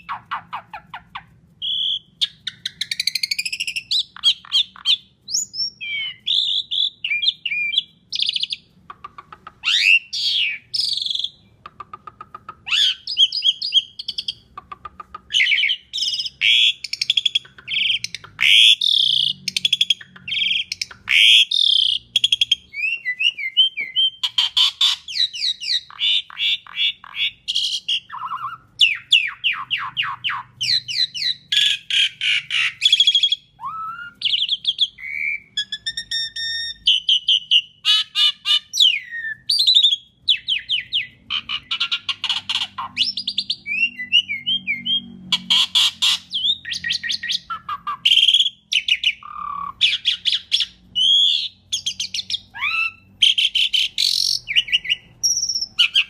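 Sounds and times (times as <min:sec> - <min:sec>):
starling singing varied song: 0:00.0 - 0:08.8, 0:15.2 - 0:56.0.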